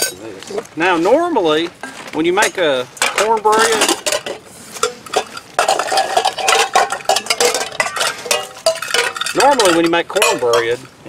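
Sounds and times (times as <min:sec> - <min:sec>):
metal bowls and pans clattering: 0:00.0 - 0:00.3, 0:02.4 - 0:11.0.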